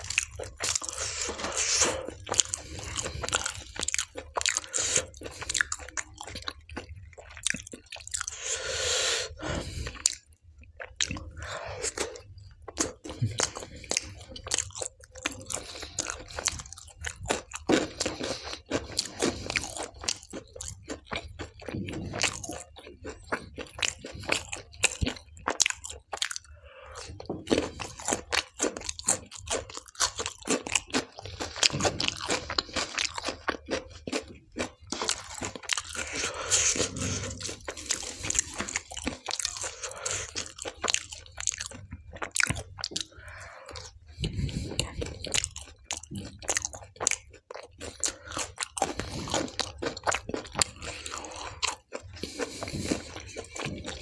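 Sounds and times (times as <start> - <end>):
close chewing of food: 0.0 - 54.0.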